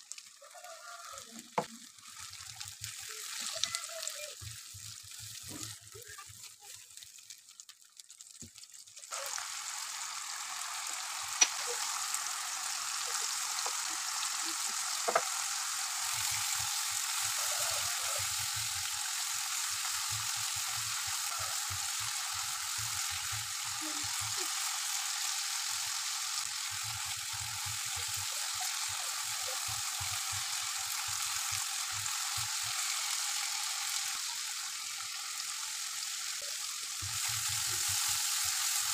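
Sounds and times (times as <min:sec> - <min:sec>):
masala sizzling in oil: 0:00.0 - 0:38.9.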